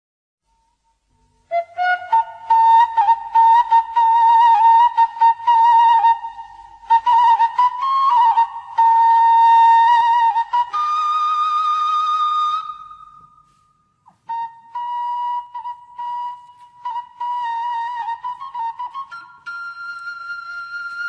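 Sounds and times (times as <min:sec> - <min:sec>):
solo flute playing: 0:00.4 - 0:21.0.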